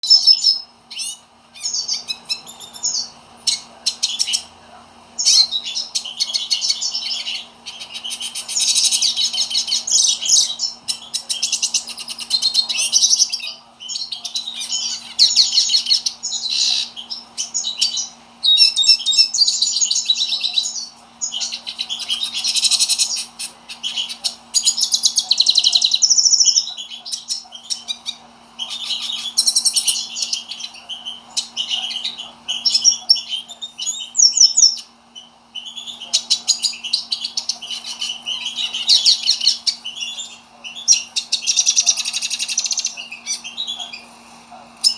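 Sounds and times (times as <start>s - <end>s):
siskin twittering song: 0.0s - 4.6s, 5.2s - 44.1s
faint steady hum: 0.0s - 44.9s.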